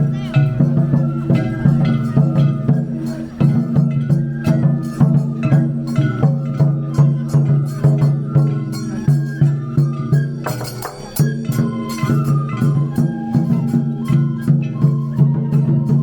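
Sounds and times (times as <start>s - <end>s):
festival drums beating: 0.0s - 16.0s
festival music melody: 0.0s - 16.0s.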